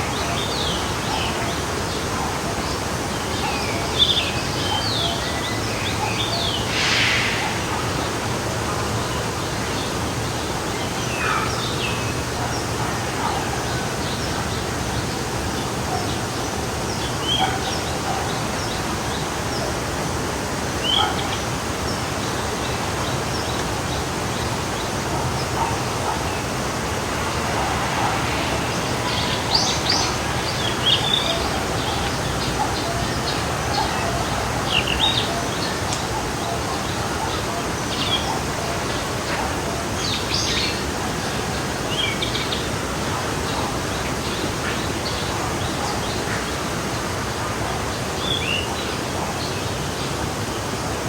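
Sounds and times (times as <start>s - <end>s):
forest stream flowing: 0.0s - 51.0s.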